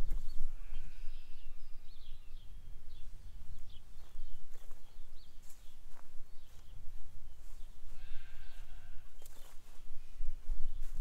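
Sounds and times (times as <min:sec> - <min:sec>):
bird chirping: 0:00.0 - 0:09.6
wind rumbling on microphone: 0:00.0 - 0:11.0.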